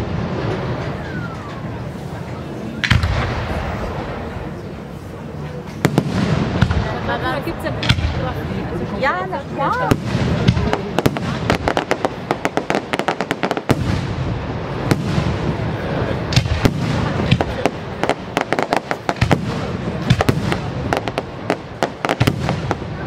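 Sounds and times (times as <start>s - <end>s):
fireworks crackling pops: 0.0s - 8.4s, 9.6s - 23.0s
fireworks bangs: 0.0s - 23.0s.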